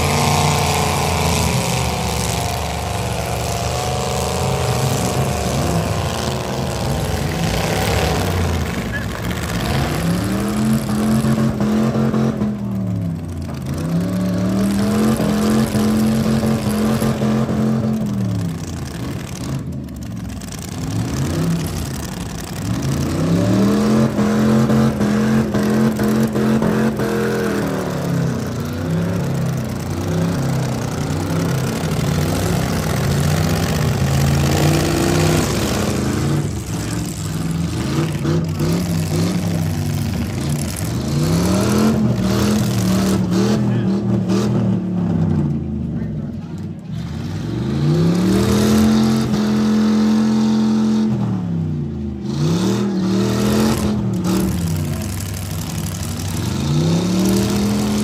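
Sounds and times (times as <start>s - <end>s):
car engine revving hard: 0.0s - 19.7s, 20.6s - 45.4s, 46.9s - 58.0s.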